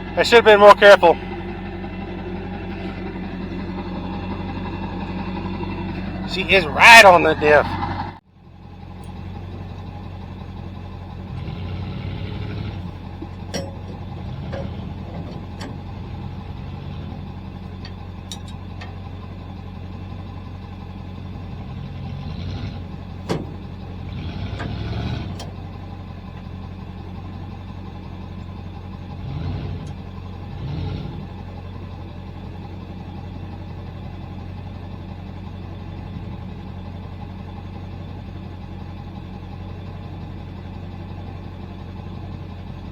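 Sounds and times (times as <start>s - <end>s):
pickup truck engine idling: 0.0s - 42.9s.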